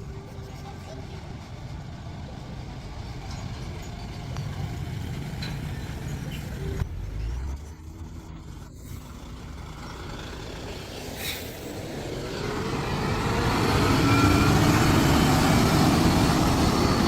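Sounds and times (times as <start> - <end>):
road rumble: 0.0 - 17.0
semi truck engine: 0.0 - 17.0.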